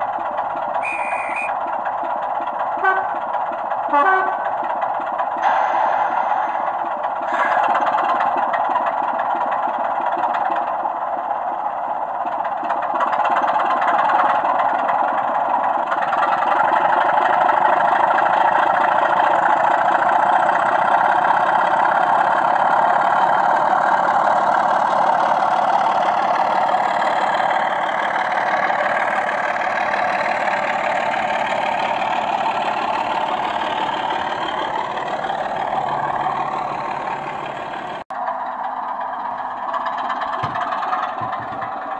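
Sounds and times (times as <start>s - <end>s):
model locomotive diesel engine: 0.0s - 41.9s.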